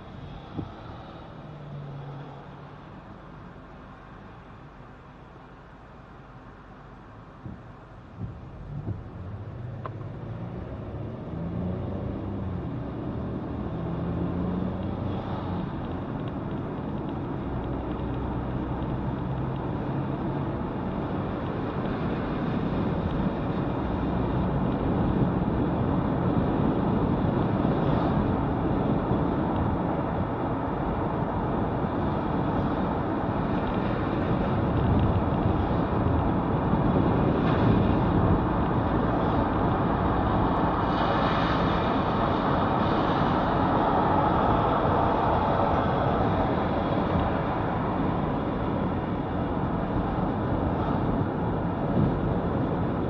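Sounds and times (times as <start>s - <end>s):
car engine hum: 0.0s - 53.0s
road and wind noise: 0.0s - 53.0s.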